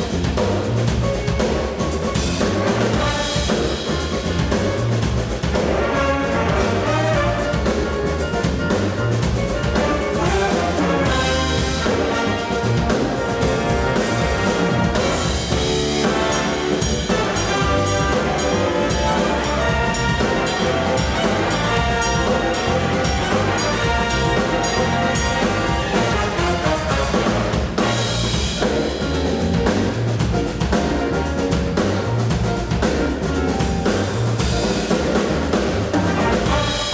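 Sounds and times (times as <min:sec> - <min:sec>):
drums: 0:00.0 - 0:36.9
jazz ensemble with brass: 0:00.0 - 0:36.9
repeating bass line: 0:00.0 - 0:36.9.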